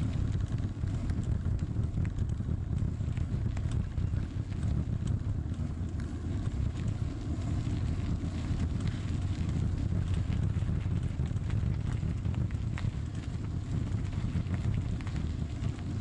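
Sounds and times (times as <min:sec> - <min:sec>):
bicycle tyres rolling on gravel: 0:00.0 - 0:16.0
small ticks of grit: 0:00.0 - 0:16.0
wind buffeting microphone: 0:00.0 - 0:16.0.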